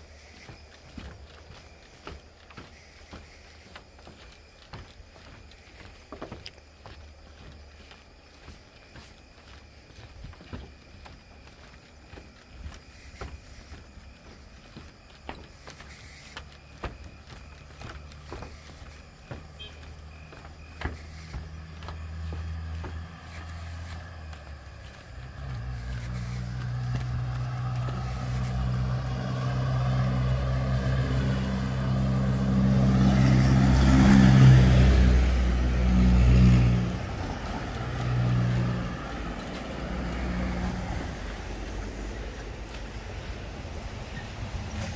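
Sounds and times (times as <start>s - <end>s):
motor vehicle engine running: 0.0s - 44.9s.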